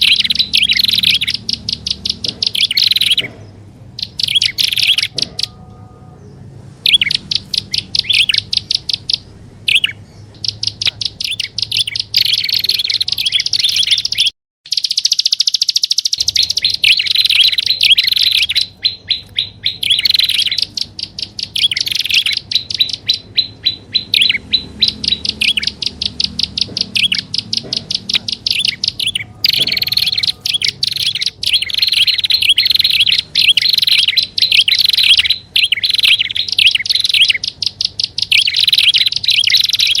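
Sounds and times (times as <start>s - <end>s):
bird chattering trills: 0.0s - 40.0s.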